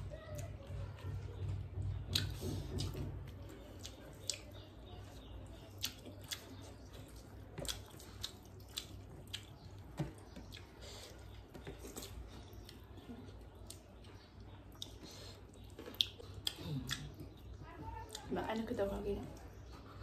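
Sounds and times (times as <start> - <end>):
wet chewing clicks and smacks: 1.6 - 18.3.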